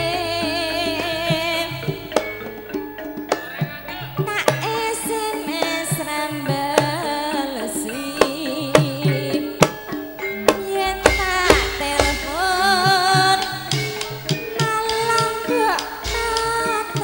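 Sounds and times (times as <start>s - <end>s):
kendang drum strokes: 0.0s - 17.0s
ornamented sung melody: 0.0s - 17.0s.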